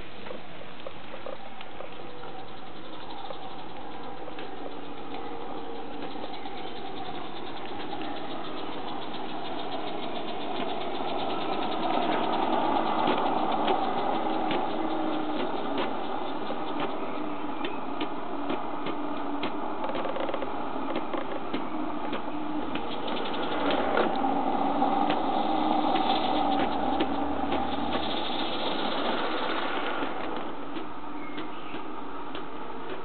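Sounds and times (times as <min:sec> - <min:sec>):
model locomotive clattering on track: 0:03.0 - 0:33.0.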